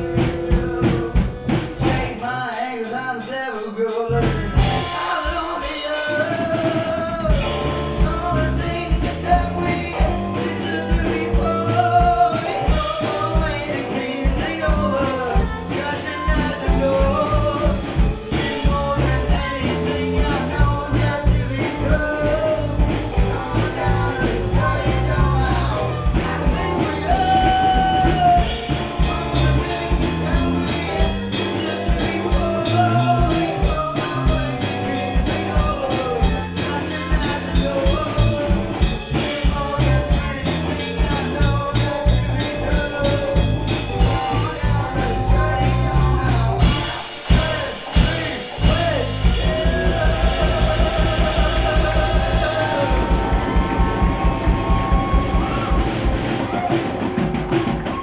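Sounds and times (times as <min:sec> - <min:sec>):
bass line: 0:00.0 - 0:02.6, 0:03.9 - 0:58.0
drum kit beat: 0:00.0 - 0:58.0
person singing: 0:00.0 - 0:58.0.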